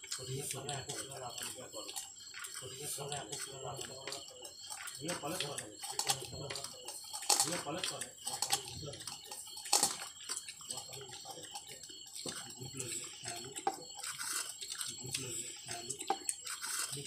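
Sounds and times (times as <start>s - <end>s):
fingers mixing rice on plate: 0.0s - 17.0s
person chewing: 0.0s - 17.0s.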